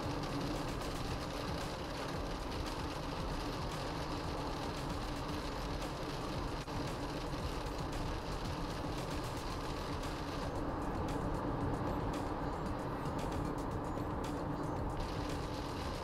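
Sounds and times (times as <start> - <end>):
road and tyre noise in car: 0.0 - 16.0.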